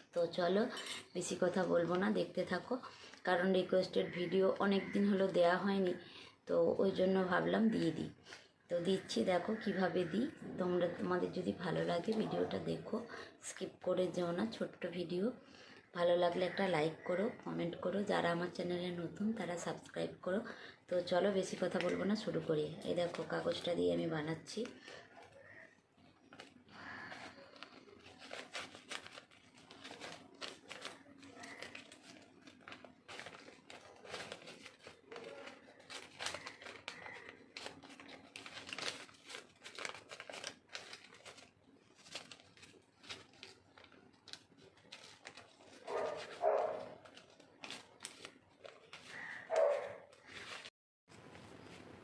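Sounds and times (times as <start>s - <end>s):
paper crinkling: 0.0s - 14.8s, 15.5s - 52.0s.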